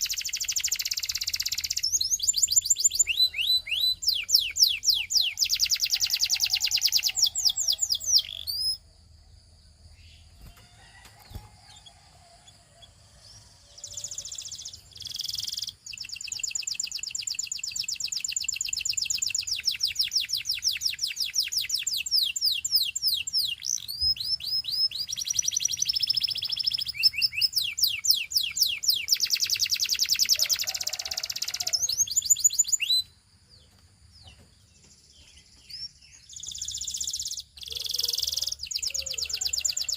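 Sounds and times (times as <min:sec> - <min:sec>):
canary singing rapid trills: 0:00.0 - 0:08.9, 0:09.9 - 0:33.1, 0:35.4 - 0:39.9.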